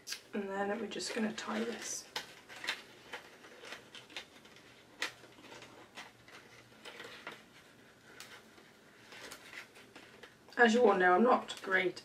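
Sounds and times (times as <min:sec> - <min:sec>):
ribbon and paper bag rustling: 0:00.7 - 0:12.0.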